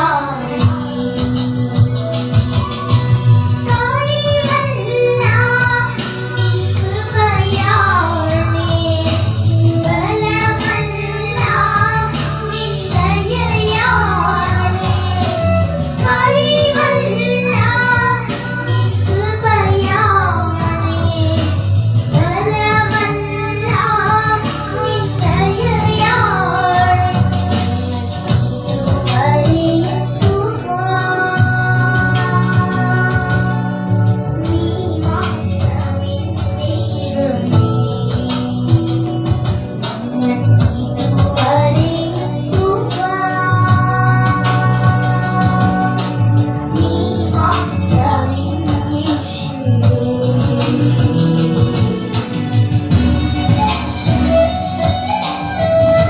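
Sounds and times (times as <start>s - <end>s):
girls singing into microphones: 0.0s - 56.0s
instrumental backing with bass: 0.0s - 56.0s.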